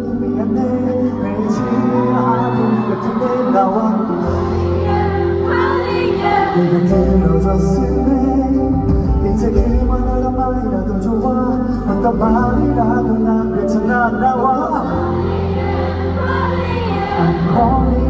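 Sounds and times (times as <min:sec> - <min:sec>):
man singing into microphone: 0:00.0 - 0:04.8, 0:06.1 - 0:15.3, 0:17.2 - 0:18.0.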